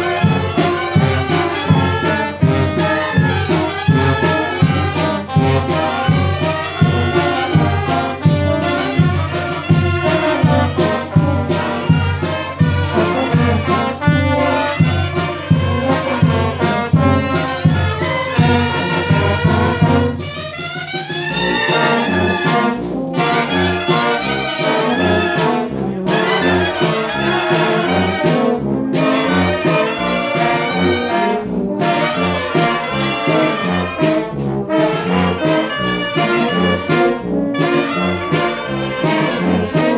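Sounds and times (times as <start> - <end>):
wind band playing a tune: 0.0 - 39.9.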